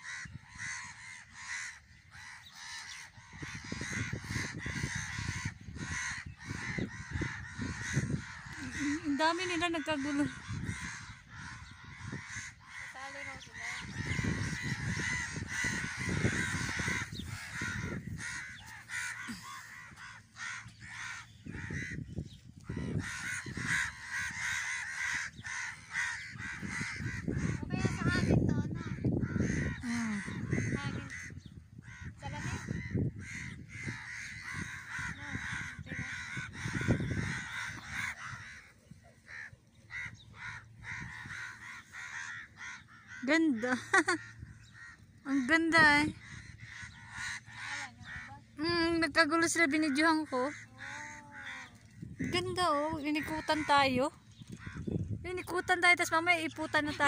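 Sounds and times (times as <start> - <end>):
flock of crows calling: 0.0 - 57.0.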